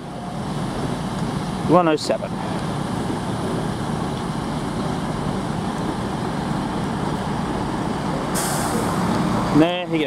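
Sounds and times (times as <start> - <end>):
train diesel engines idling: 0.0 - 10.0.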